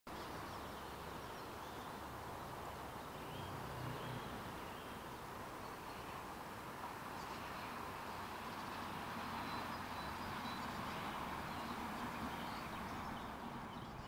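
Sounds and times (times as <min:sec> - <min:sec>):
background hiss: 0:00.1 - 0:14.0.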